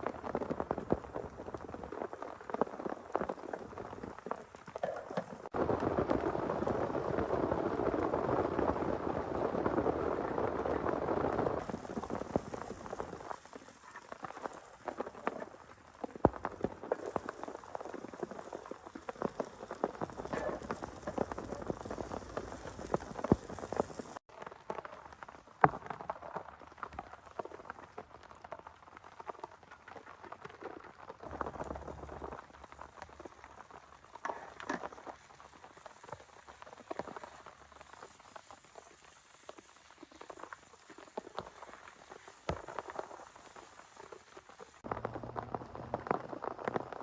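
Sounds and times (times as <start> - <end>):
raindrops tapping on a surface: 0.0 - 47.0.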